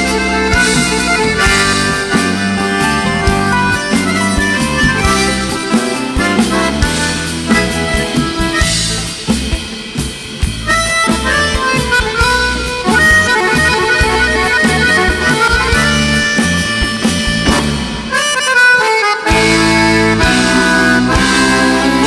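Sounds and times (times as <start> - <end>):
button accordion melody: 0.0 - 22.0
drum kit: 0.0 - 22.0
electric guitar: 0.0 - 22.0.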